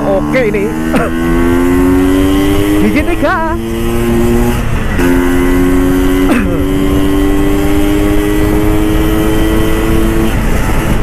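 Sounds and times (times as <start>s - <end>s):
two-stroke engine accelerating: 0.0s - 11.0s.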